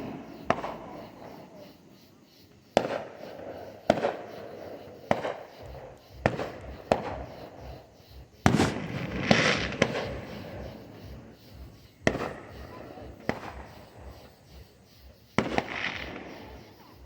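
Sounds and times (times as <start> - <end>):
fireworks bangs with echoes: 0.0 - 1.8, 2.7 - 17.0.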